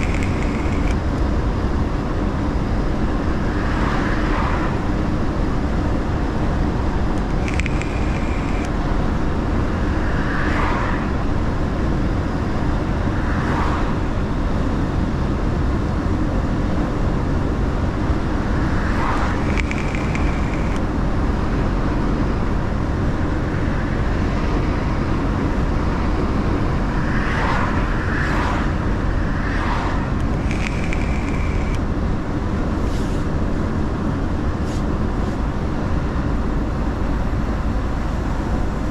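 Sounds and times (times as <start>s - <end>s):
passing vehicle noise: 0.0s - 38.9s
truck engine and road rumble: 0.0s - 38.9s.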